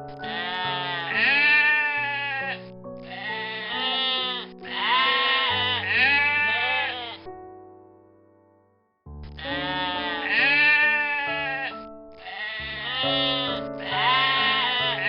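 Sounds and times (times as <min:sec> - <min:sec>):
music with sustained notes: 0:00.0 - 0:15.0
quavering animal cries: 0:00.2 - 0:07.3, 0:09.4 - 0:15.0.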